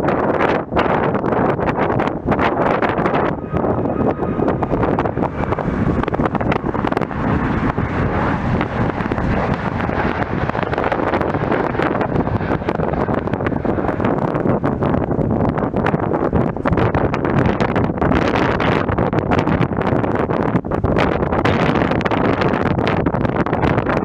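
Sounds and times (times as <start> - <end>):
jet engine noise: 0.0 - 24.0
wind buffeting on microphone: 0.0 - 24.0.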